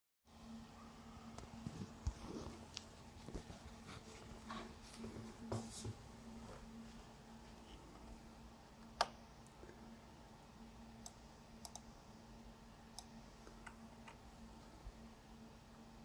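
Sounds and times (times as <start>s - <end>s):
faint steady hum: 0.3s - 16.0s.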